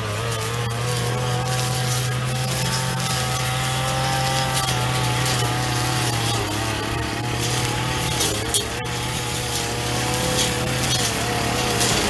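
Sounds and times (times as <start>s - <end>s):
brush cutter engine cutting weeds: 0.0s - 12.0s.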